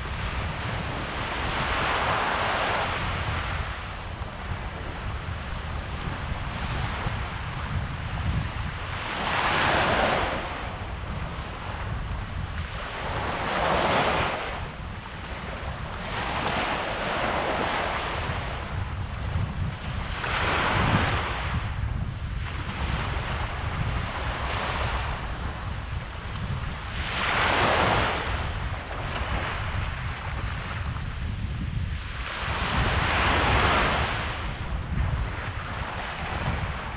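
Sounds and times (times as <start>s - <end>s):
waves washing up a sandy shore: 0.0s - 36.9s
wind rumble on microphone: 0.0s - 36.9s.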